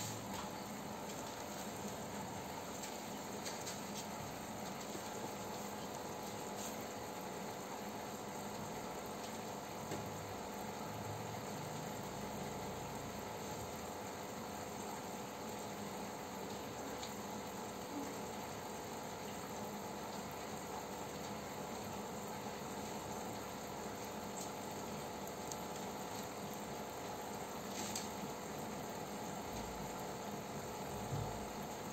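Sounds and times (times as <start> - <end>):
aquarium filter bubbling: 0.0 - 31.9.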